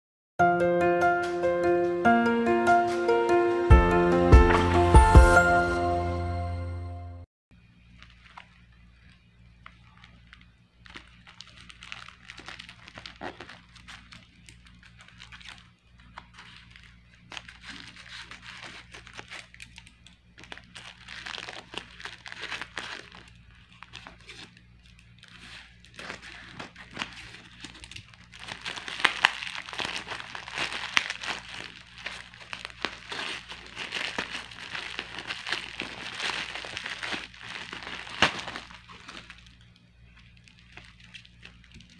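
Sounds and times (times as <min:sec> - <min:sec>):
faint low hum: 0:07.5 - 0:41.9
bubble wrap rustling: 0:07.6 - 0:41.9
plastic pouch crinkling: 0:07.6 - 0:41.9.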